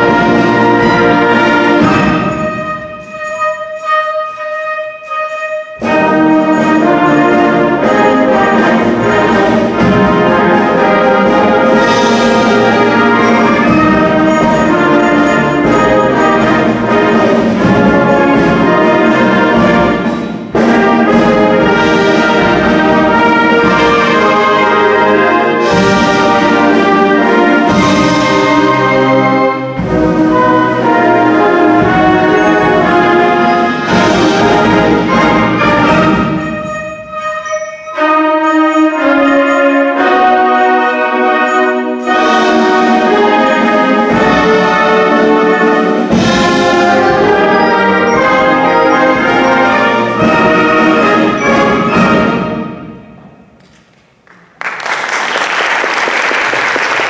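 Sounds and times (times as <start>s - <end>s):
concert band playing full chords: 0.0s - 53.4s.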